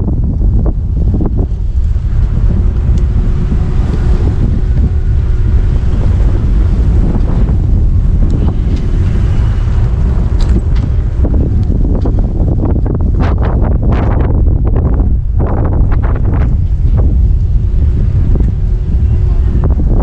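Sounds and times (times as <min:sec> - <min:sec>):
low rumble: 0:00.0 - 0:20.0
wind buffeting microphone: 0:00.0 - 0:20.0.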